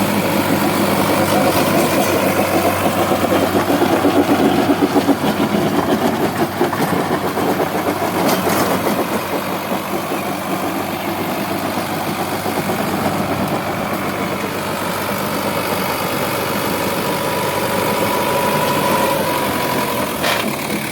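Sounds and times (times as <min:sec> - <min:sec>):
tractor diesel engine idling: 0:00.0 - 0:20.9.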